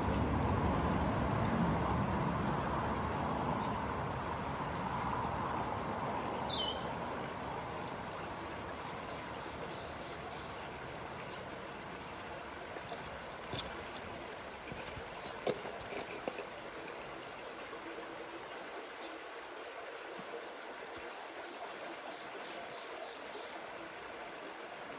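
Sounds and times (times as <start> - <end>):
creek babbling over rocks: 0.0 - 24.9.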